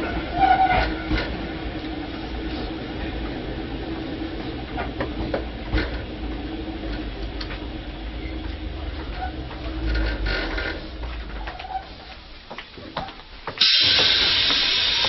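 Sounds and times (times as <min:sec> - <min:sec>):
train cabin low hum: 0:00.0 - 0:15.0.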